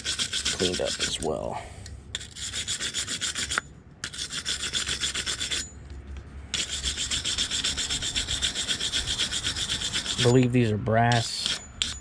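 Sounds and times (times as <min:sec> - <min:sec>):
wire brush scrubbing metal: 0:00.0 - 0:01.4, 0:02.2 - 0:05.8, 0:06.5 - 0:12.0.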